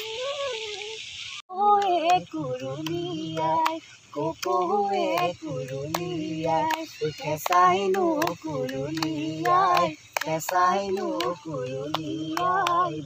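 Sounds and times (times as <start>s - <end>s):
woman singing unaccompanied: 0.0s - 13.0s
hand claps: 1.7s - 13.0s.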